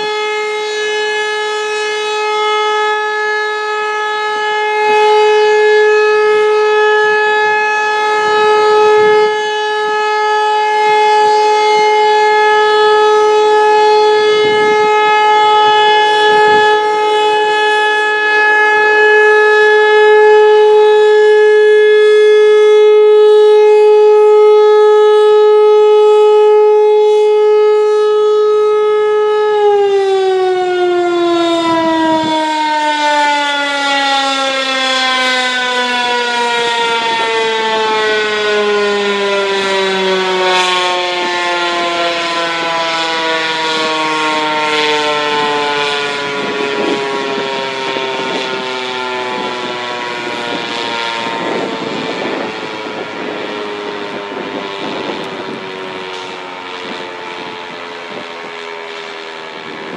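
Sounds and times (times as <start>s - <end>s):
rotating mechanical warning siren: 0.0s - 59.9s.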